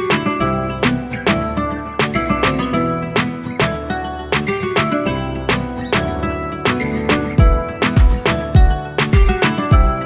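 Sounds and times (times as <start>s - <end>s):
plucked guitar with beat: 0.0s - 10.0s.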